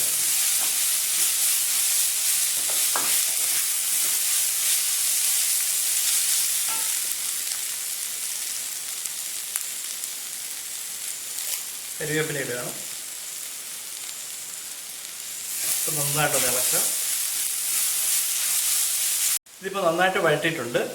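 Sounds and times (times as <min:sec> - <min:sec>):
vegetables sizzling in oil: 0:00.0 - 0:20.8.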